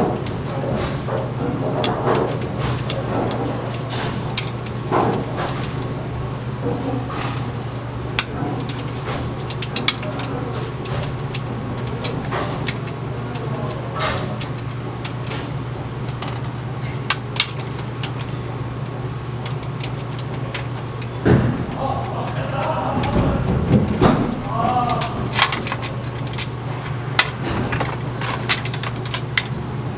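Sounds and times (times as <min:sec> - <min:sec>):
low machinery hum: 0:00.0 - 0:29.9.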